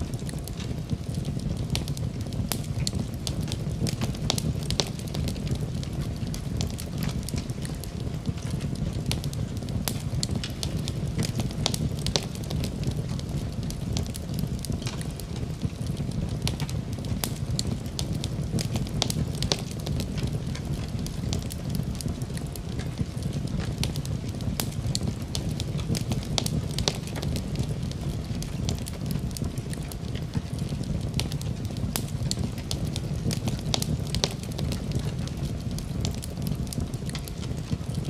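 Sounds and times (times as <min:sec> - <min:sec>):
fire crackling and popping: 0:00.0 - 0:38.0.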